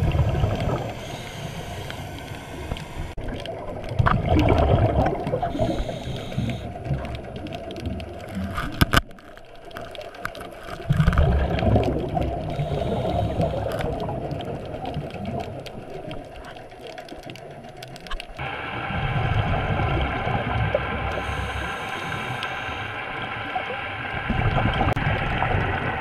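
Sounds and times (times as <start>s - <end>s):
underwater breathing bubbles: 0.0s - 8.8s, 10.3s - 16.4s, 18.4s - 26.0s.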